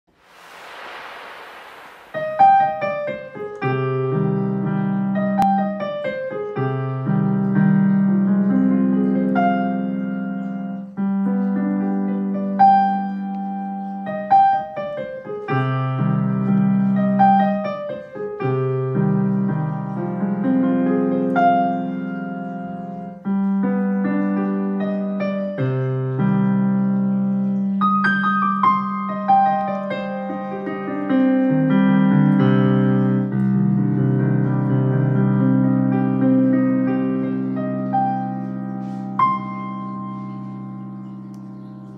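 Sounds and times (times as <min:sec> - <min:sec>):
digital piano waltz: 0:02.2 - 0:41.9.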